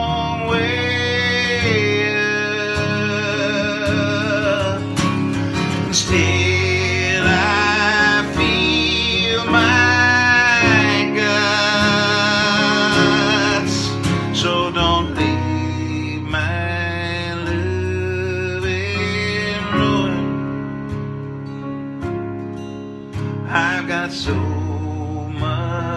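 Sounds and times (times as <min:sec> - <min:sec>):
man singing: 0:00.0 - 0:20.7, 0:23.4 - 0:25.9
guitar accompaniment: 0:00.0 - 0:25.9.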